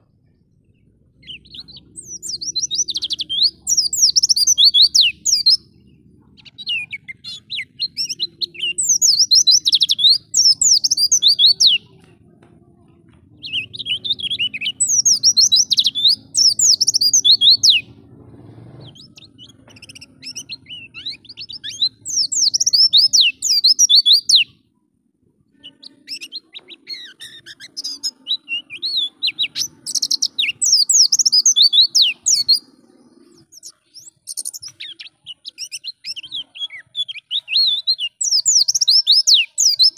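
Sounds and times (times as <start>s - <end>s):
bird twittering and trilling: 0.0s - 12.2s, 13.0s - 24.6s, 25.5s - 39.9s.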